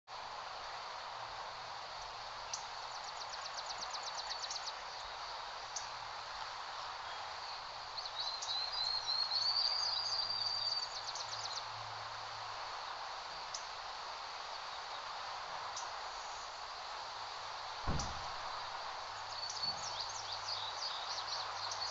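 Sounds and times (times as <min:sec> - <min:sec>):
breeze hiss: 0:00.2 - 0:21.9.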